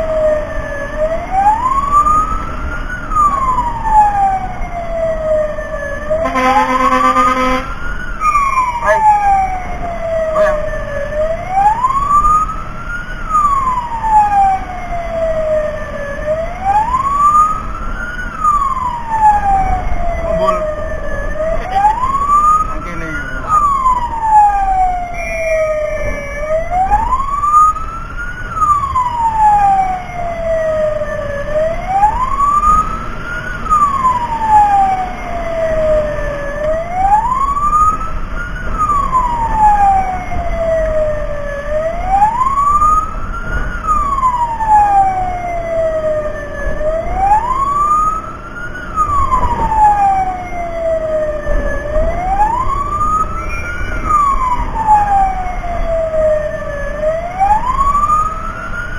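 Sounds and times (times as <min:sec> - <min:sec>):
fire truck siren wailing: 0:00.0 - 0:58.9
vehicle and road rumble: 0:00.0 - 0:58.9.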